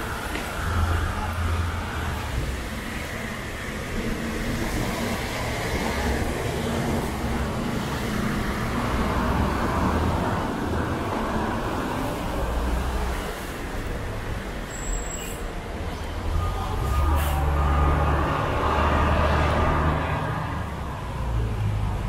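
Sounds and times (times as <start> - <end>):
low rumble of engines: 0.0 - 22.0
tyres hissing on wet road: 0.0 - 22.0.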